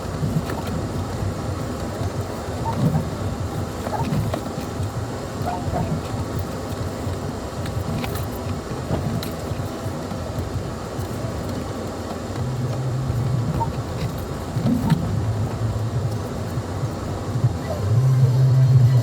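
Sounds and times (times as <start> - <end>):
off-road vehicle engine rumble: 0.0 - 19.0.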